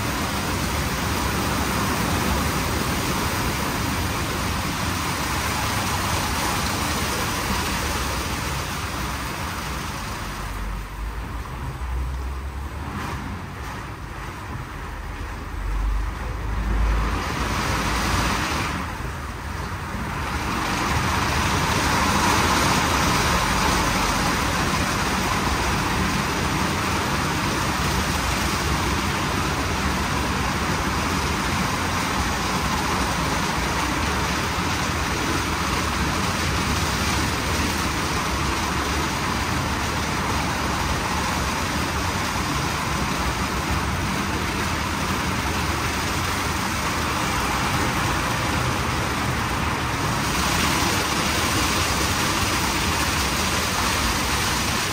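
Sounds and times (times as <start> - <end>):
car wash rushing noise: 0.0 - 54.9.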